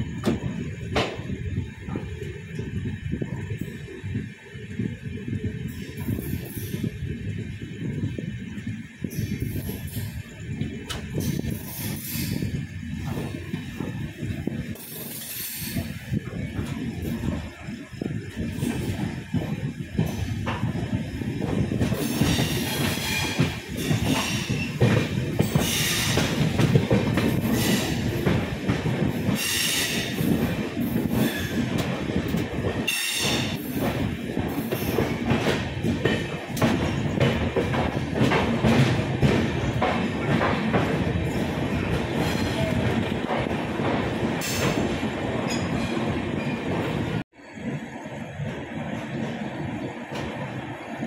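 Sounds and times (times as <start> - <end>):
train wheels rumbling on rails: 0.0 - 51.0
clatter over rail joints: 5.7 - 47.2.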